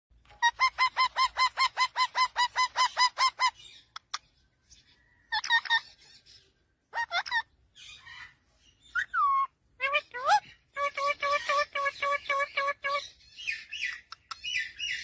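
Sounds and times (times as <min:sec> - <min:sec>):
parrot calling: 0:00.4 - 0:04.2, 0:05.3 - 0:06.2, 0:06.9 - 0:15.0.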